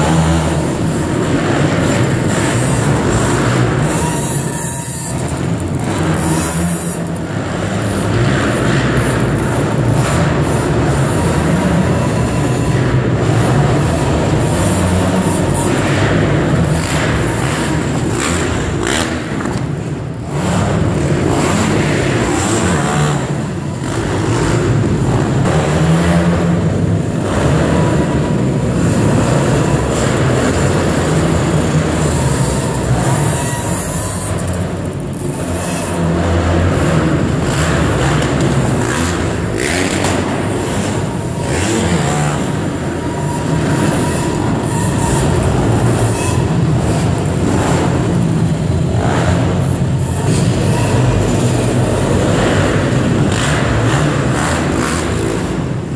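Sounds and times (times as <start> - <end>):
quad bike engines revving: 0.0 - 55.9.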